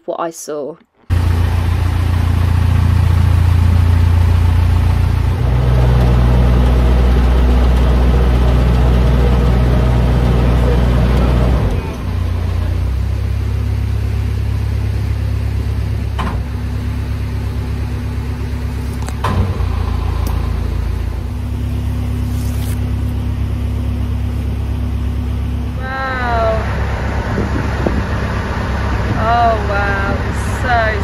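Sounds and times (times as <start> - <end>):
diesel engine humming: 1.1 - 31.0.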